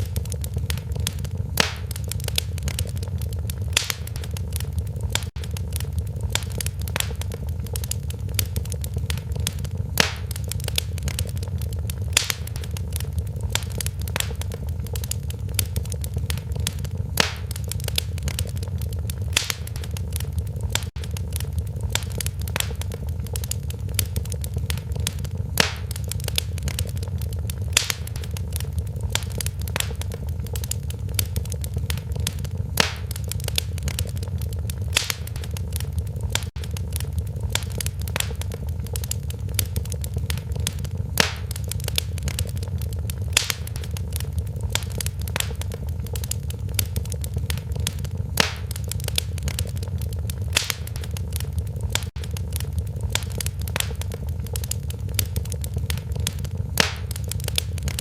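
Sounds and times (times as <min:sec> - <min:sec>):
fire crackling: 0:00.0 - 0:58.0
low rumble of burning: 0:00.0 - 0:58.0
sharp pops of fire: 0:00.0 - 0:58.0.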